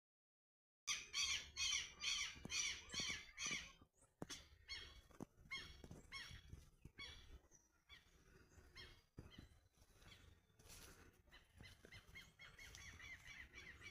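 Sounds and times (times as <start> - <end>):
short repeated bird calls: 0.9 - 13.9.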